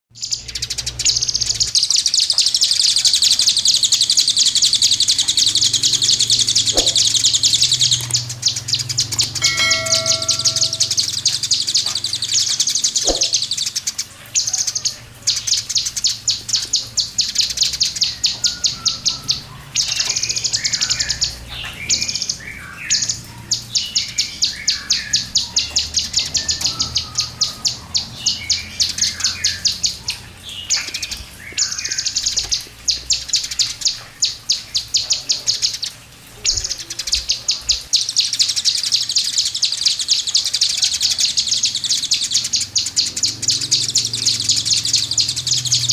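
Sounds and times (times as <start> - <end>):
magpie-robin singing: 0.1 - 45.9.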